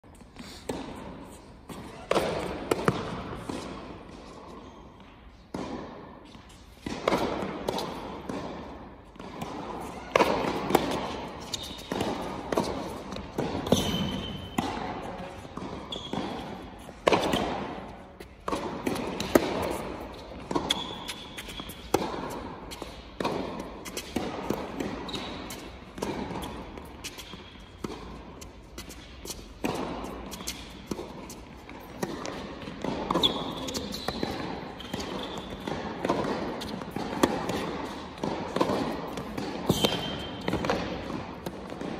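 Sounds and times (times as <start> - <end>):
shoes squeaking on court: 0.1 - 41.9
tennis racket strikes: 0.6 - 4.4, 5.5 - 41.9
tennis ball bounces: 0.6 - 41.9.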